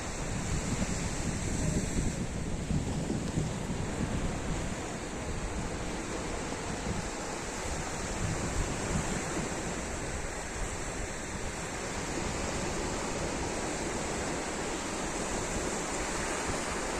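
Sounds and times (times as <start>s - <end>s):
sea surf washing on beach: 0.0s - 16.9s.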